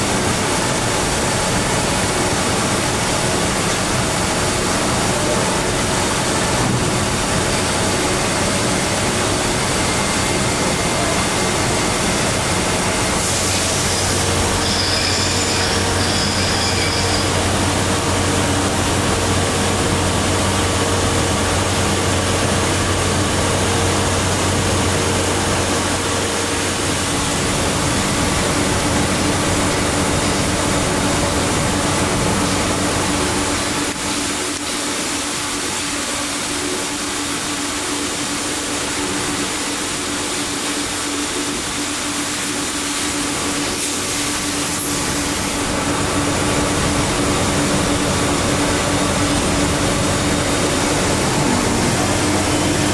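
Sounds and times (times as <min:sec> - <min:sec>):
surface grinder machine hum: 0:00.0 - 0:34.6, 0:42.8 - 0:52.9.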